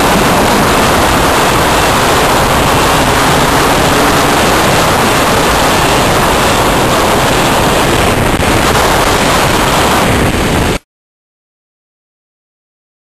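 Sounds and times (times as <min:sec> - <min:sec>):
wind and road noise: 0:00.0 - 0:10.8.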